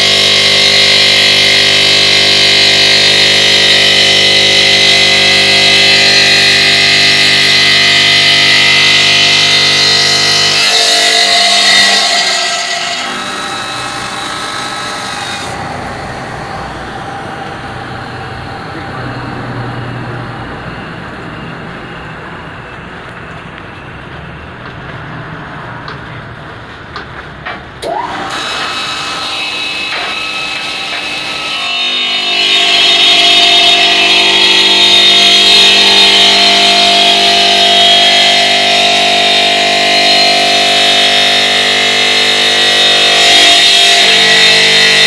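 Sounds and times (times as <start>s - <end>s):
saw blade cutting stone: 0.0s - 20.8s, 27.5s - 45.0s.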